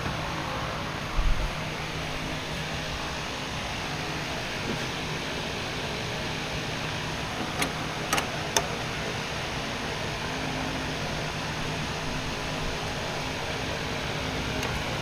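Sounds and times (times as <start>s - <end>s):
whirring fan: 0.0s - 15.0s.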